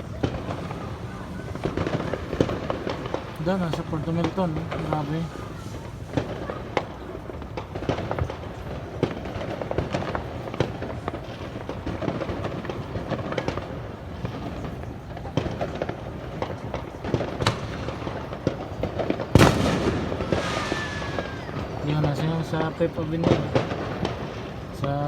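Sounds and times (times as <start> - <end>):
loud firework bang: 0.0 - 24.7
fireworks pops and cracks: 0.0 - 25.0
outdoor background noise: 0.0 - 25.0.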